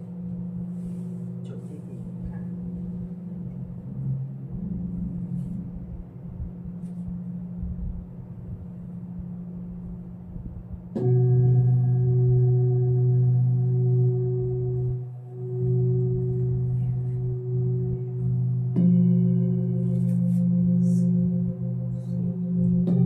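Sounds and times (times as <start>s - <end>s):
singing bowls ringing: 0.0s - 10.2s, 10.9s - 23.0s
low rumble: 0.0s - 23.0s.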